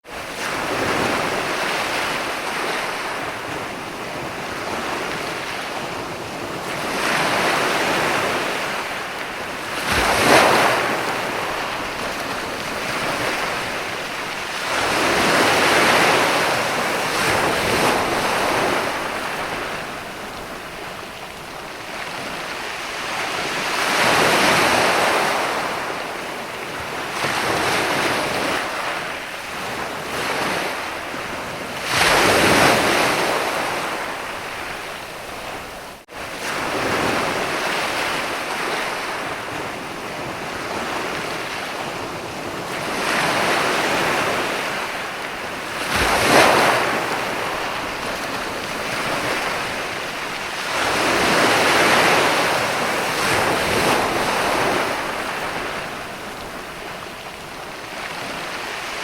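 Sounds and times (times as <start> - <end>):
ocean waves breaking on beach: 0.0 - 59.0
wind on microphone: 0.0 - 59.0.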